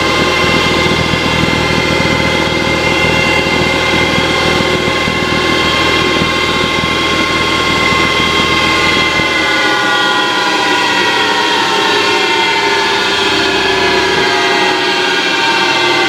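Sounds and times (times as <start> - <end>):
lathe spindle whine: 0.0 - 16.0
low hum: 0.0 - 16.0.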